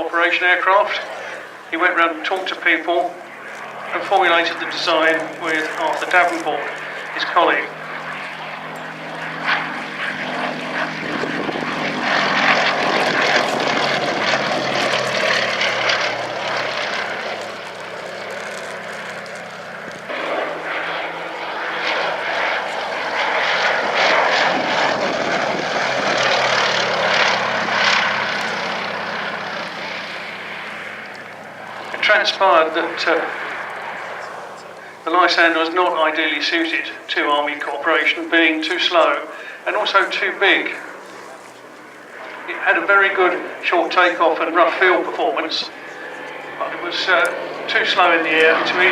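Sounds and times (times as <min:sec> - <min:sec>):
aircraft radial engine and propeller: 0:00.0 - 0:48.9.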